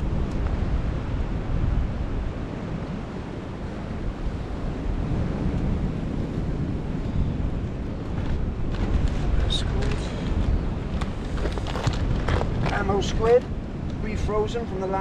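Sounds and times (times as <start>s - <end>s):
sea surf washing in: 0.0s - 15.0s
wind buffeting microphone: 0.0s - 15.0s.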